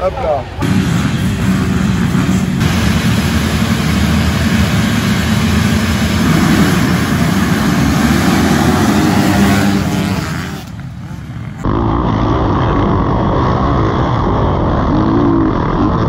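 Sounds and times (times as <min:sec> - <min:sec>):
motocross bike engine running: 0:00.6 - 0:16.0.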